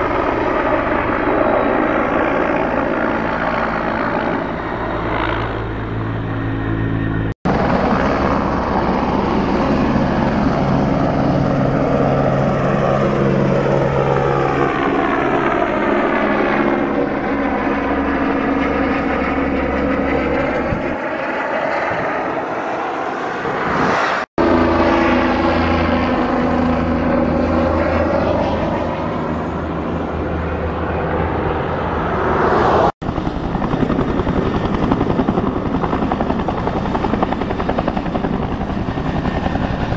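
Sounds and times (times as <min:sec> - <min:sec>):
helicopters flying overhead: 0:00.0 - 0:39.9.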